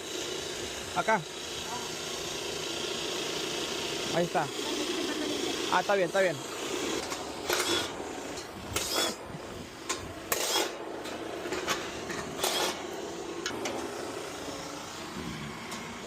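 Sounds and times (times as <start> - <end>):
recovery machine humming: 0.0 - 16.0.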